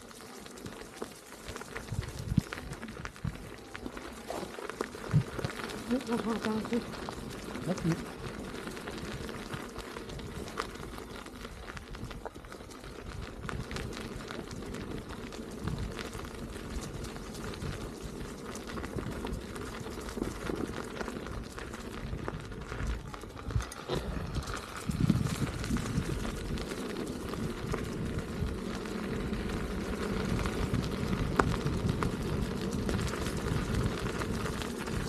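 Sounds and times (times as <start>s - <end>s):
crackles and ticks from path: 0.0s - 35.0s
unicycle tyre rolling: 0.0s - 35.0s
wind on microphone: 1.6s - 35.0s.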